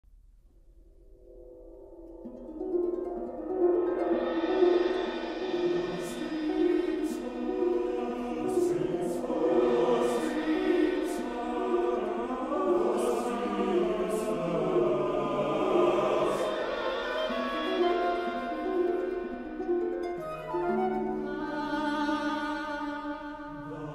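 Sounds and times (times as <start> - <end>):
harp arpeggios: 1.9 - 23.9
choir singing slow line: 2.6 - 23.9.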